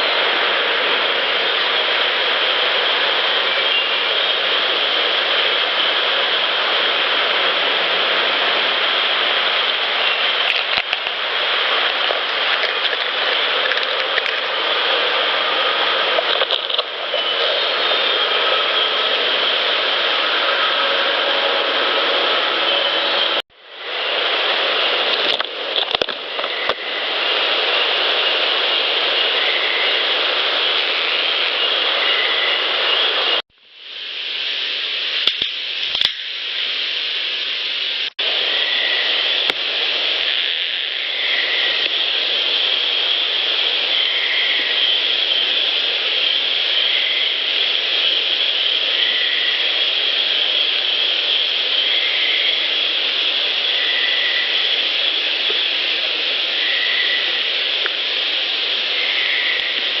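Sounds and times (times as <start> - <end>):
recorder hiss: 0.0 - 60.0.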